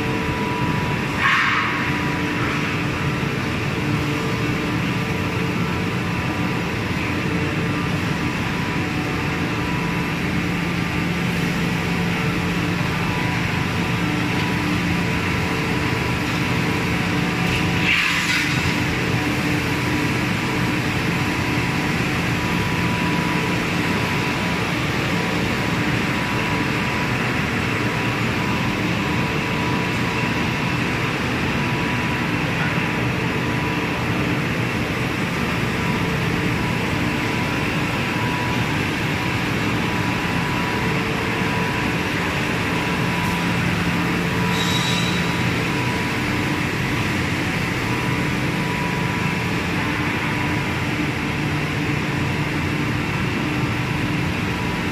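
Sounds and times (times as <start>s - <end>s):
factory machinery hum: 0.0s - 54.9s.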